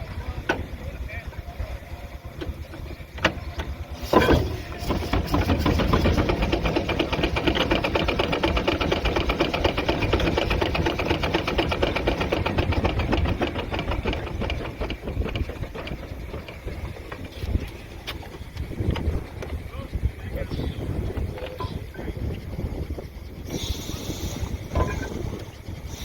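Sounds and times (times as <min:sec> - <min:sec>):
steam engine exhaust clatter: 0:00.0 - 0:26.0.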